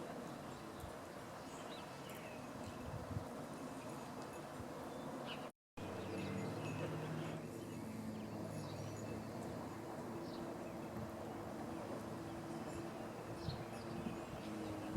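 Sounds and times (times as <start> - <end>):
low mechanical hum: 0.0 - 14.9
small birds chirping: 0.2 - 14.9.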